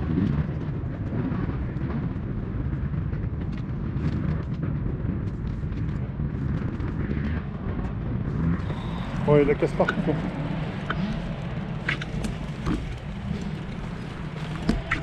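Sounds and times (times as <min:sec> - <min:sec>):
faint clicks and crackles: 0:00.0 - 0:15.0
wind buffeting microphone: 0:00.0 - 0:15.0.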